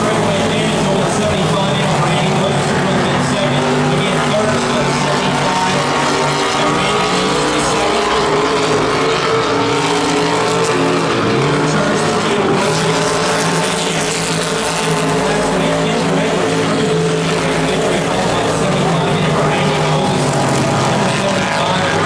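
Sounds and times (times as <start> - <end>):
stock car engines racing: 0.0 - 22.0.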